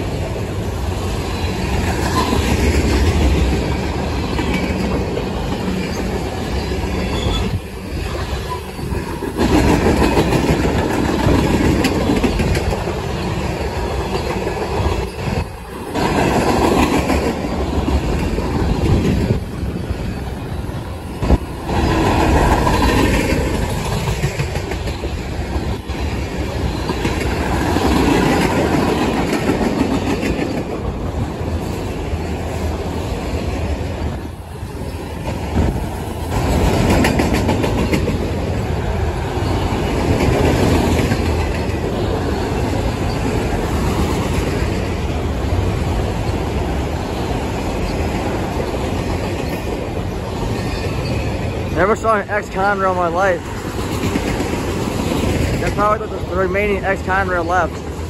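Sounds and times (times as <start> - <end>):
train wheels rumbling on rail: 0.0 - 58.0
wheels clacking over rail joints: 1.0 - 58.0.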